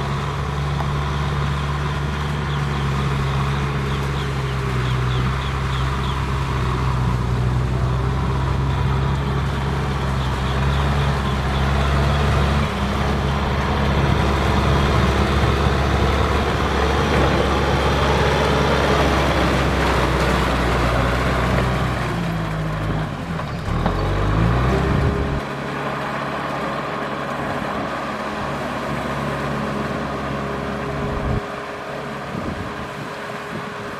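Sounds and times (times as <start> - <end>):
tractor diesel engine working hard: 0.0 - 33.9.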